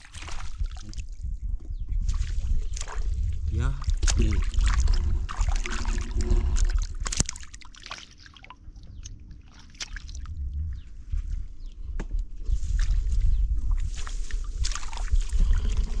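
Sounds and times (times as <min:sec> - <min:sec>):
water sloshing and trickling: 0:00.0 - 0:01.3, 0:02.0 - 0:10.8, 0:12.5 - 0:16.0
low rumble: 0:00.0 - 0:07.4, 0:08.6 - 0:16.0.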